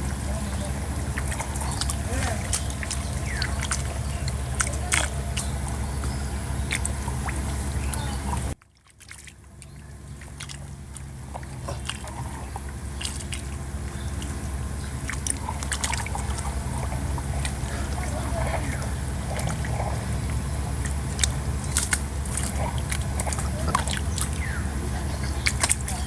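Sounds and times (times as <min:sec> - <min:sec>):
steady low hum: 0:00.0 - 0:26.0
water sloshing and trickling: 0:00.0 - 0:26.0.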